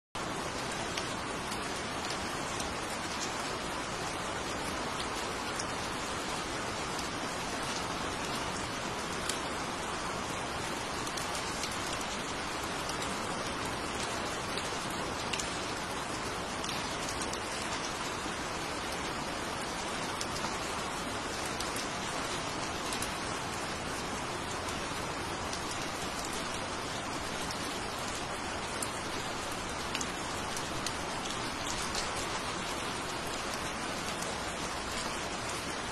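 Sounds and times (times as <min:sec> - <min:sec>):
rain falling on foliage: 0:00.2 - 0:35.9.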